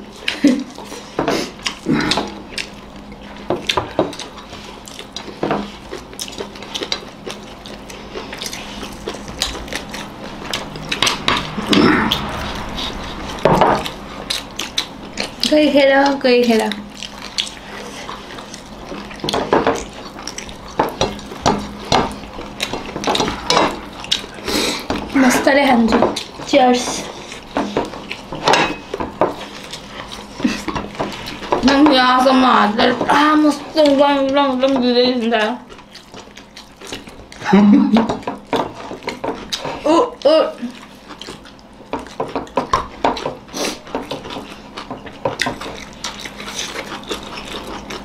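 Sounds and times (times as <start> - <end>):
eating sounds: 0.0 - 48.0.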